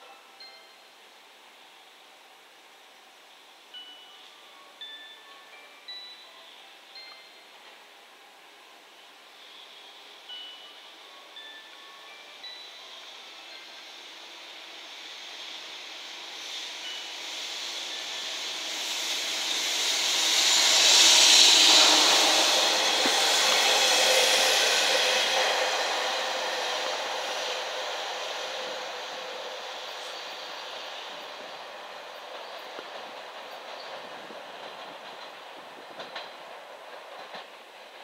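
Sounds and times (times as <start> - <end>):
freight train passing: 0.0 - 38.0
wheel and rail noise: 6.5 - 38.0.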